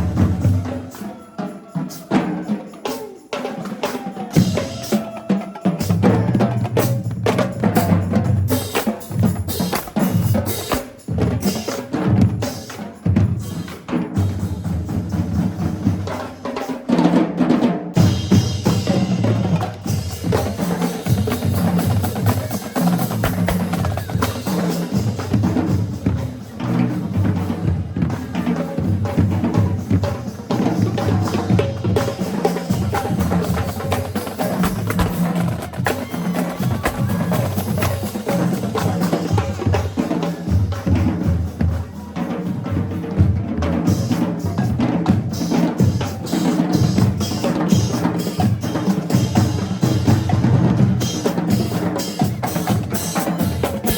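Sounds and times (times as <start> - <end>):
drumline playing snare and bass drums: 0.0 - 53.9.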